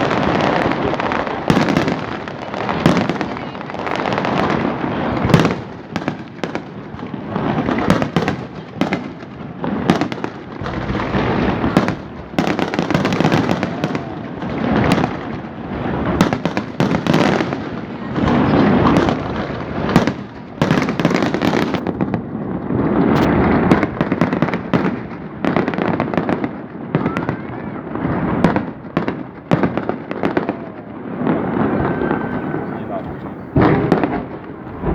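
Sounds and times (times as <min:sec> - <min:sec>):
fireworks bursting: 0:00.0 - 0:34.9
rumble of explosions: 0:00.0 - 0:34.9.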